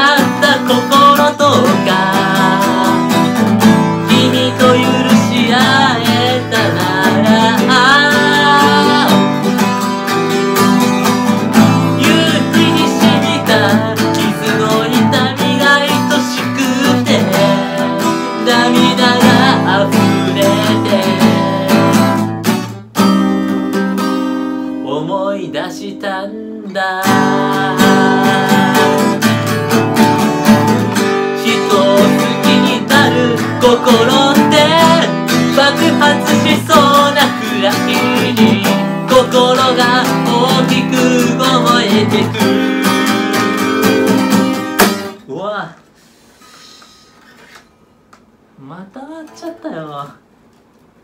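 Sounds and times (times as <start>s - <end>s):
man singing: 0.0s - 22.5s, 24.7s - 45.7s
acoustic guitar strumming: 0.0s - 46.4s.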